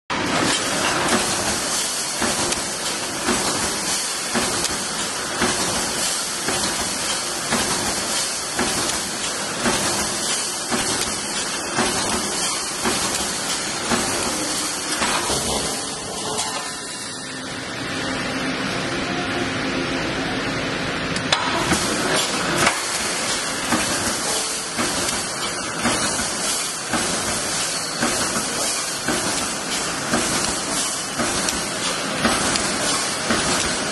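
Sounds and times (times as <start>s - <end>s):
welding machine clicks and knocks: 0.3s - 16.8s, 21.2s - 33.9s
welding hiss: 0.5s - 17.2s, 21.7s - 33.9s.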